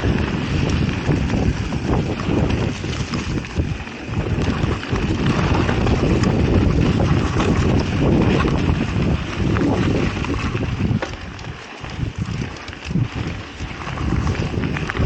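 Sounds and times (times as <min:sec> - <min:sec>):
bike rattling and knocking: 0:00.0 - 0:15.0
tyres running over dirt: 0:00.0 - 0:15.0
wind buffeting microphone: 0:00.0 - 0:15.0.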